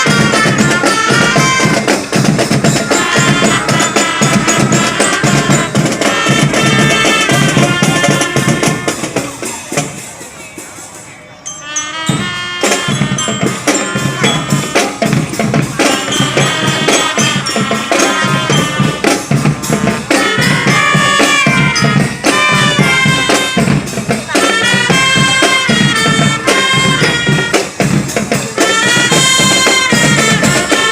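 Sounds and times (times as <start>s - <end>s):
drums beating steady rhythm: 0.0s - 30.9s
marching band playing: 0.0s - 30.9s.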